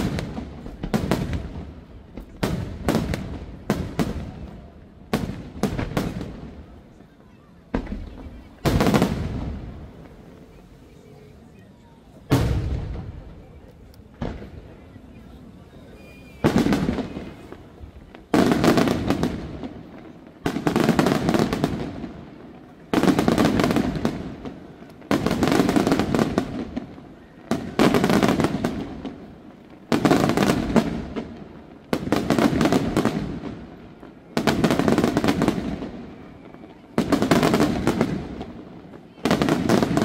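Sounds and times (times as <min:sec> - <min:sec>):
dense crackle of fireworks: 0:00.0 - 0:40.0.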